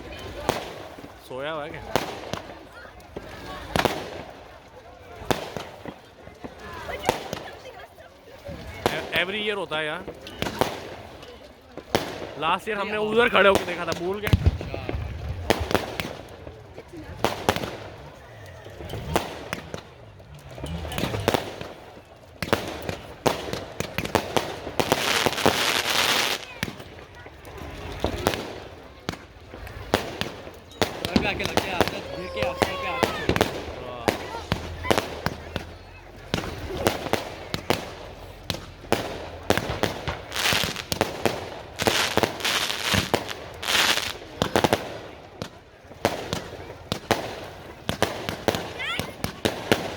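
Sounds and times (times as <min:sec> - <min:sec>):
fireworks bangs and pops: 0:00.0 - 0:49.9.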